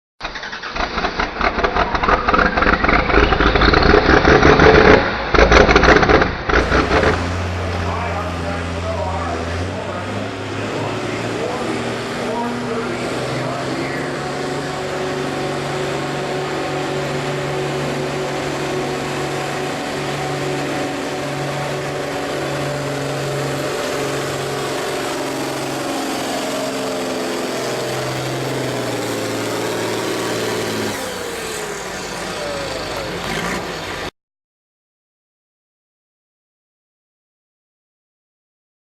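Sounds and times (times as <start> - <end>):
tractor engine under load: 0.2 - 34.1.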